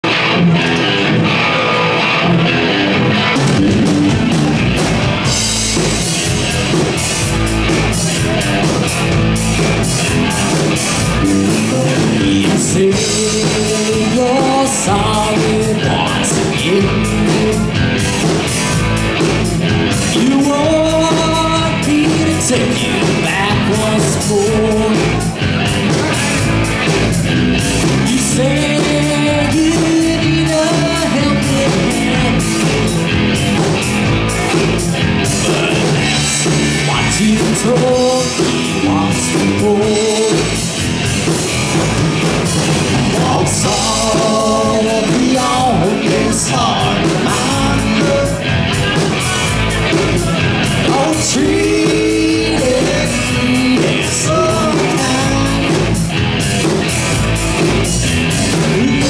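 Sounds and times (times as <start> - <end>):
drum kit: 0.0 - 59.0
electric bass: 0.0 - 59.0
electric guitar: 0.0 - 59.0
lead vocal singing: 2.9 - 18.9, 19.7 - 33.5, 34.4 - 56.1, 57.6 - 59.0.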